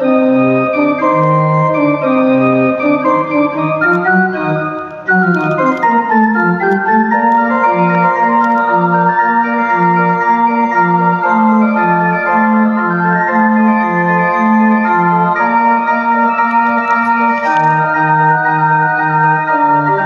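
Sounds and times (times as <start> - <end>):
calliope playing a bouncy tune: 0.0 - 20.0.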